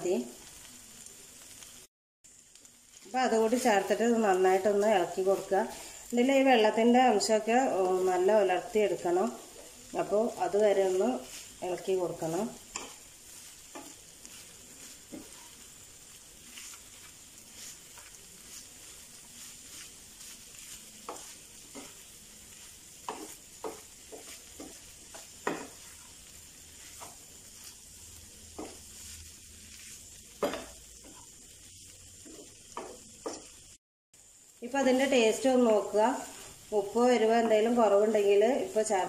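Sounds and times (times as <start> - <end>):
faint sizzle: 0.0 - 39.0
wooden spatula scraping a pan: 2.9 - 31.5, 32.1 - 33.7, 34.9 - 39.0.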